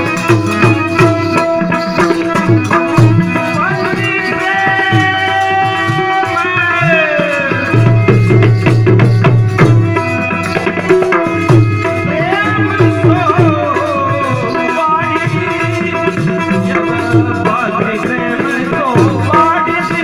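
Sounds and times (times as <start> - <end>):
melody of sliding held notes: 0.0 - 20.0
tabla drumming: 0.0 - 20.0.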